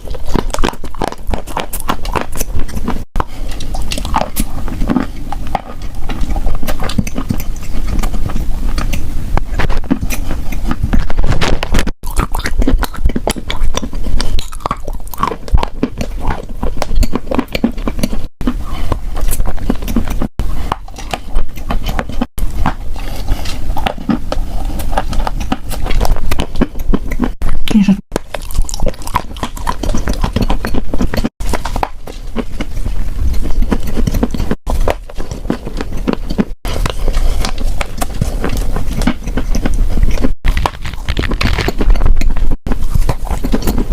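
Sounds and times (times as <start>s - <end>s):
chalk crunching while chewed: 0.0s - 27.5s, 28.1s - 43.9s.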